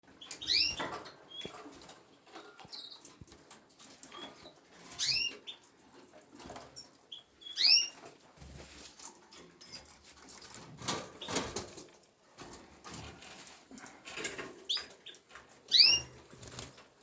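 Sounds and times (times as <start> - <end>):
canaries chirping: 0.0 - 13.2, 14.0 - 16.9.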